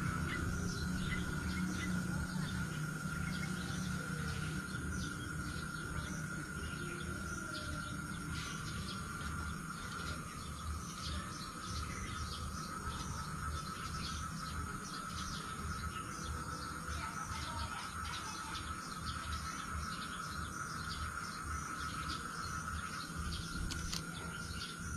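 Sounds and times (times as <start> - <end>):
bird chirps: 0.0 - 24.9
insect drone: 0.0 - 24.9.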